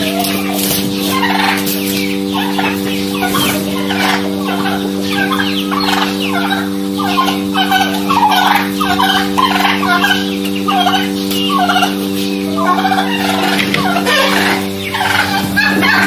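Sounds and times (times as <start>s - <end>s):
low hum: 0.0s - 16.0s
turkeys gobbling: 0.0s - 16.0s.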